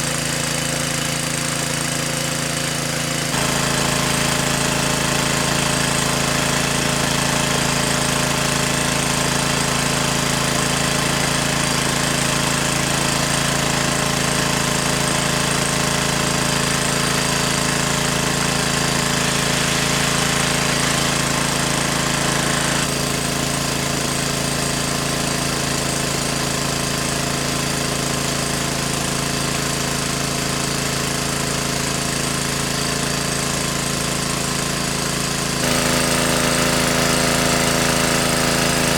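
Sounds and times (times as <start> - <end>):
motor running: 0.0 - 38.9.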